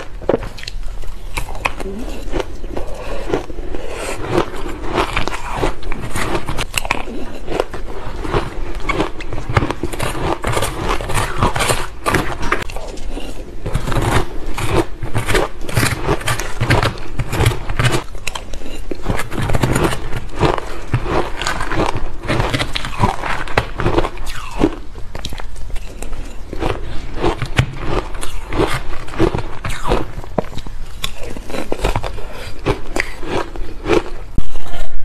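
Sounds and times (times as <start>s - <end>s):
chewing crushed ice: 0.0s - 35.0s.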